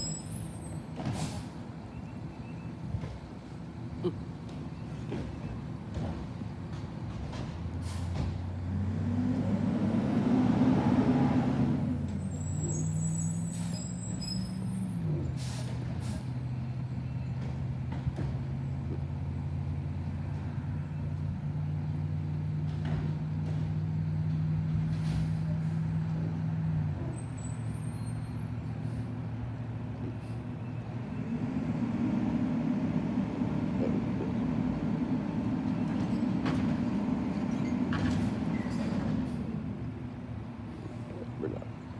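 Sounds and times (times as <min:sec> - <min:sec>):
garbage truck diesel engine: 0:00.0 - 0:41.9.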